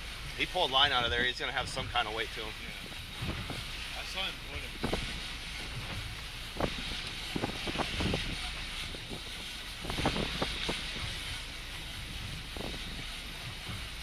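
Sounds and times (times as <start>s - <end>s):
boat engine running: 0.0s - 14.0s
hiss of wind and water: 0.0s - 14.0s.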